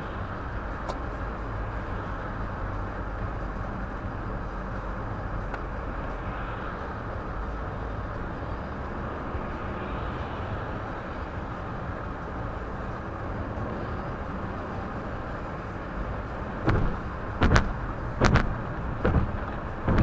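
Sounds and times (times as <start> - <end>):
tyre and engine rumble: 0.0 - 20.0.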